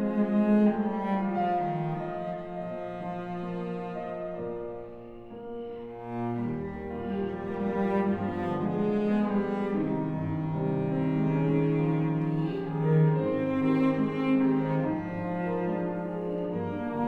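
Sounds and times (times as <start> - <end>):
cello playing sustained notes: 0.0 - 17.0
piano: 0.0 - 17.0
violin: 0.0 - 17.0.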